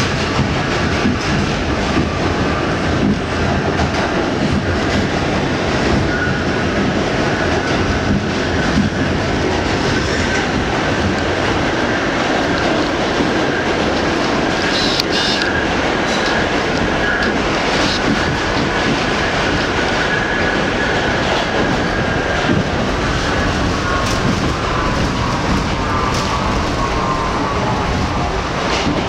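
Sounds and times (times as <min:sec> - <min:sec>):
subway car wheels on rails: 0:00.0 - 0:29.0.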